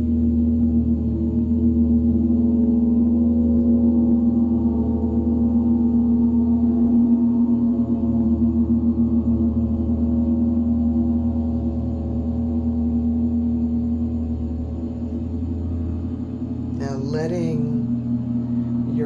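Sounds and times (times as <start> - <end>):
ringing overtone drone: 0.0 - 19.0.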